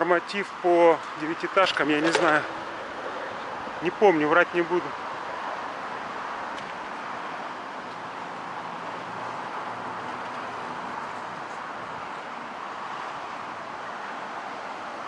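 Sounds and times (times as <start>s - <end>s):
road traffic hiss: 0.0s - 15.0s.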